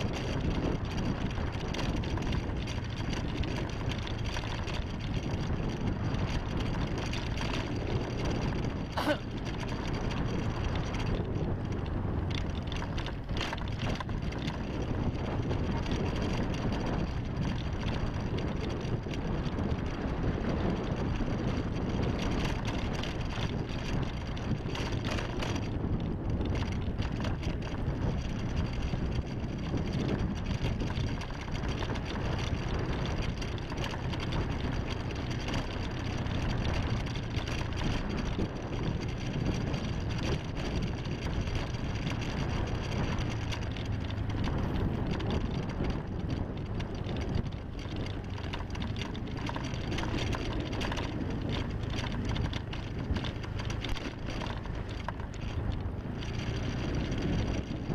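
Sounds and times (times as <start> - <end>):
low engine rumble: 0.0 - 57.9
wind rushing over microphone: 0.0 - 57.9.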